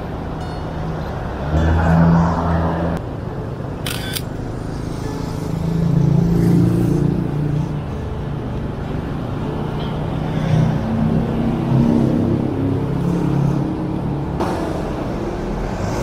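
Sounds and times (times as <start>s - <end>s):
car engines passing: 0.0s - 16.0s.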